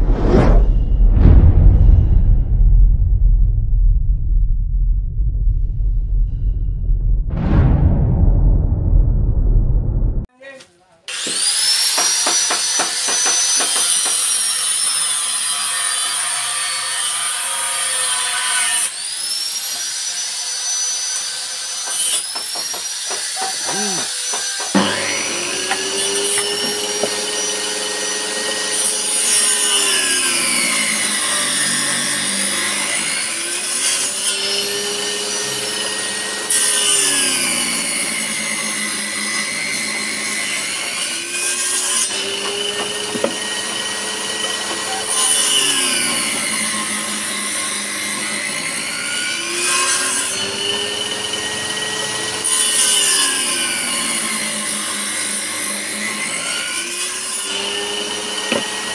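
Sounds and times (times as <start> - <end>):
table saw cutting wood: 11.1 - 58.9.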